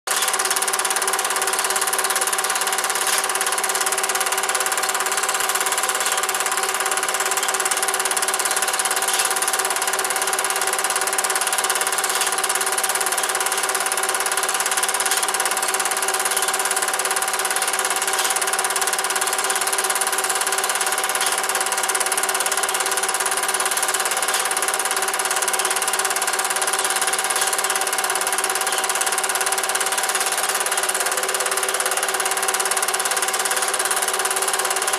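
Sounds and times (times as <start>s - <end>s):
film projector whirring and clattering: 0.1s - 34.9s.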